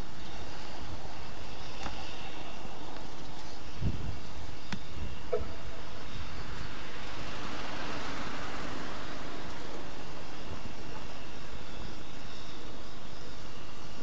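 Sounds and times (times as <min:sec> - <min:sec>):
distant steam locomotive rumbling: 0:00.0 - 0:14.0.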